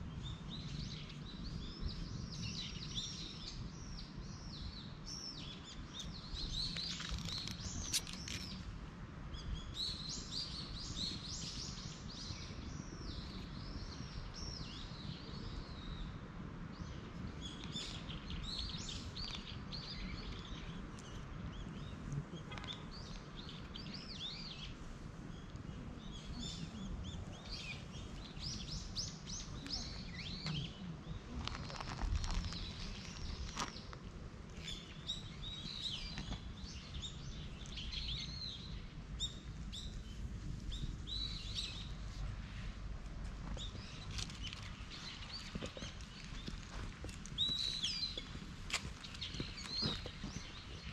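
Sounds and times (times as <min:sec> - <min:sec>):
small birds twittering: 0:00.0 - 0:08.7, 0:09.3 - 0:34.0, 0:34.6 - 0:42.7, 0:43.4 - 0:50.9
low outdoor rumble: 0:00.0 - 0:50.9.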